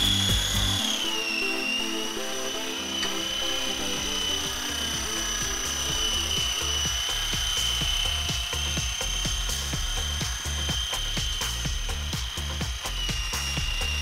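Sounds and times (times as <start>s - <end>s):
background music with bass beat: 0.0s - 14.0s
rc helicopter motor whine: 0.0s - 14.0s.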